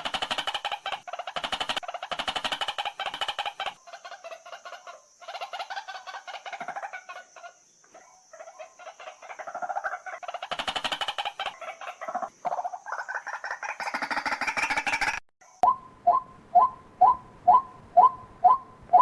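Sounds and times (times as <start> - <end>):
bird harsh croaking calls: 0.0 - 19.0.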